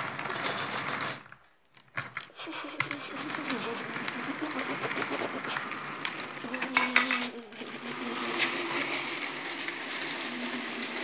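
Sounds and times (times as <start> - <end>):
model train wheels clicking on rails: 0.0 - 11.0.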